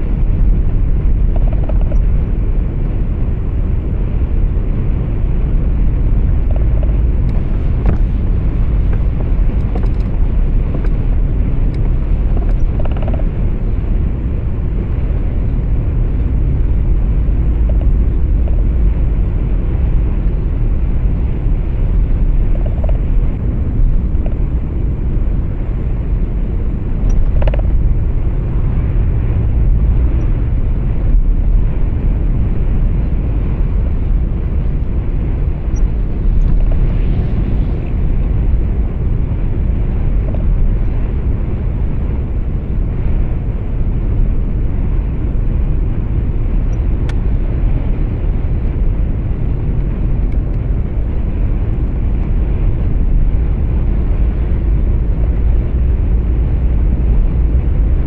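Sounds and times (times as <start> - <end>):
truck road and engine rumble: 0.0 - 58.0.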